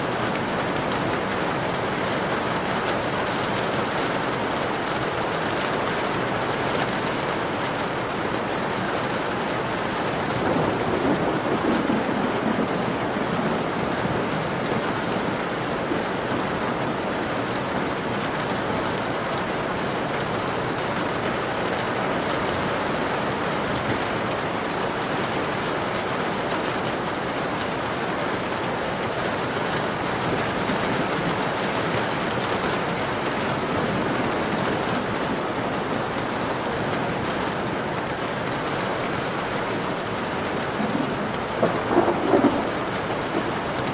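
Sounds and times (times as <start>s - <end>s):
heavy rain pattering on a window: 0.0s - 43.9s.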